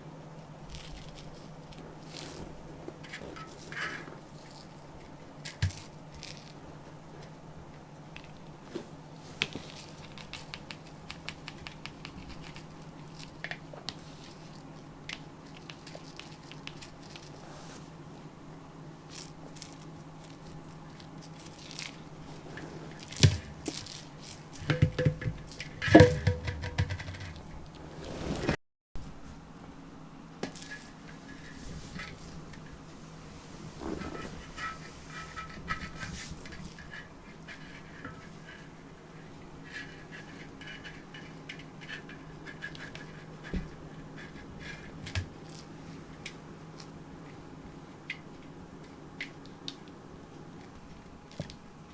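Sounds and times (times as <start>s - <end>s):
low steady hum: 0.0s - 51.9s
rustling and handling noises: 0.3s - 29.7s, 30.4s - 51.9s.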